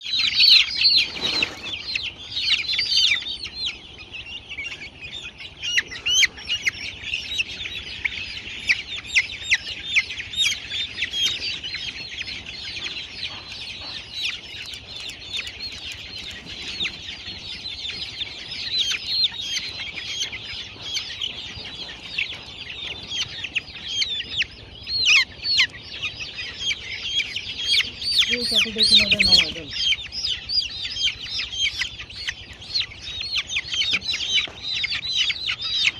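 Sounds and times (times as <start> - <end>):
chickens peeping: 0.0 - 35.9.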